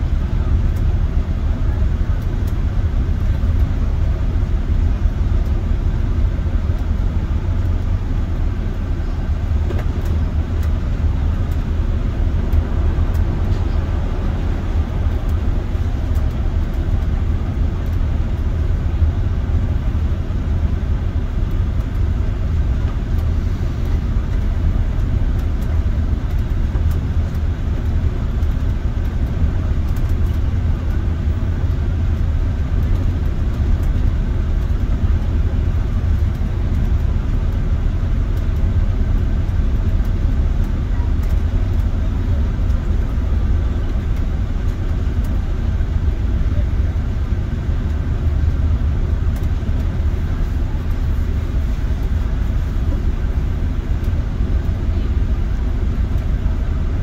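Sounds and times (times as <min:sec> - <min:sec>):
bus engine: 0:00.0 - 0:57.0
road noise: 0:00.0 - 0:57.0.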